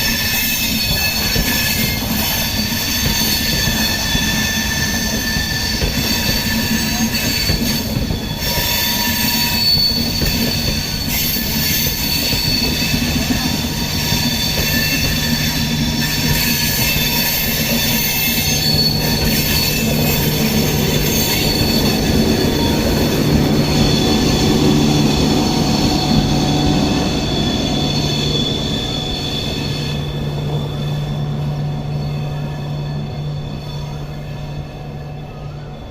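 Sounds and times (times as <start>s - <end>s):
train wheels squealing: 0.0s - 35.9s
wheels rumbling on rails: 0.0s - 35.9s.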